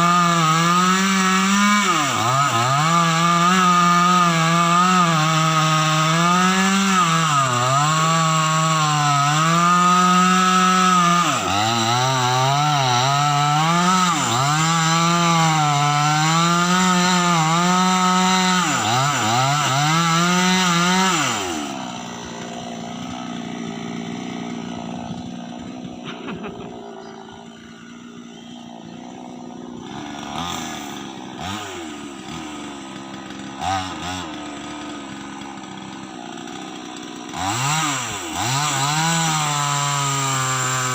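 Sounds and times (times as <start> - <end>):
chainsaw cutting into tree: 0.0 - 40.9.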